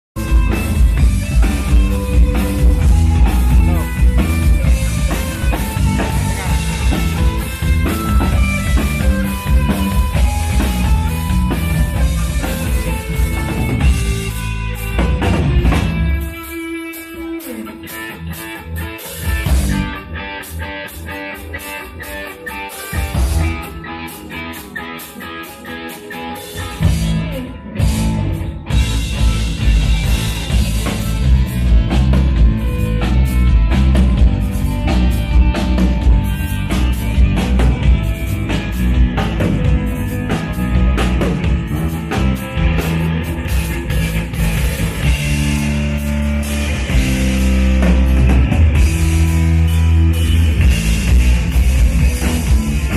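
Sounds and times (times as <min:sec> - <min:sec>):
drum kit: 0:00.2 - 0:52.9
electric bass guitar: 0:00.2 - 0:52.9
electric guitar: 0:00.2 - 0:52.9.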